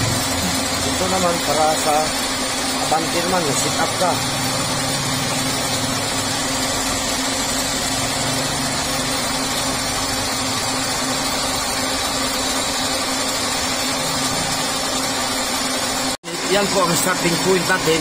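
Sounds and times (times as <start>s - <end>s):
milling machine humming: 0.0s - 18.0s.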